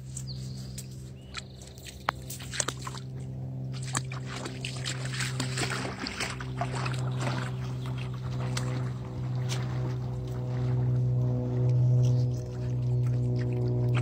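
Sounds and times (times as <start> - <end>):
steady low hum: 0.0 - 14.0
dog splashing in water: 1.3 - 14.0.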